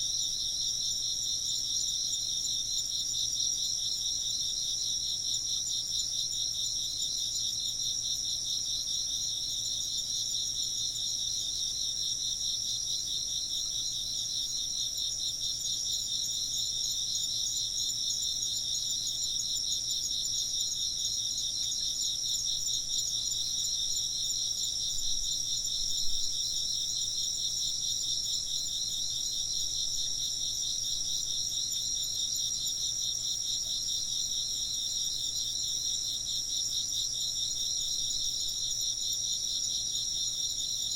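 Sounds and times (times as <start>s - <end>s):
rapid pulsing insect trill: 0.0s - 40.9s
steady high insect trill: 0.0s - 40.9s.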